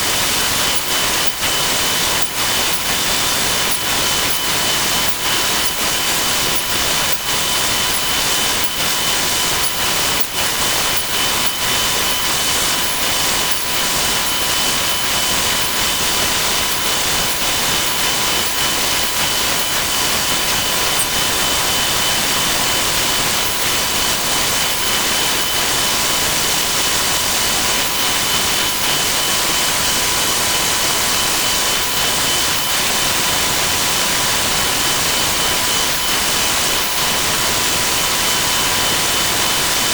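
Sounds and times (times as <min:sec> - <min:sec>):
rapid knocks and clicks: 0:00.0 - 0:33.0
steady whining tones: 0:00.0 - 0:39.1.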